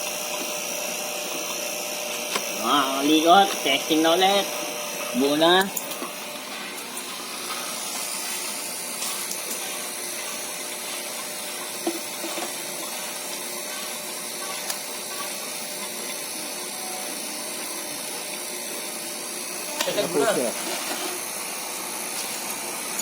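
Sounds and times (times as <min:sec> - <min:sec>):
small electric motor whirring: 0:00.0 - 0:23.0.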